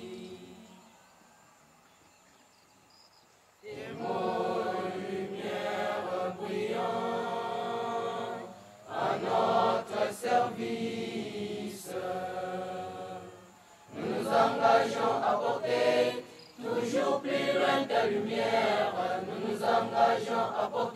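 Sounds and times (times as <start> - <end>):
students singing a hymn: 0.0 - 1.1, 3.6 - 20.9.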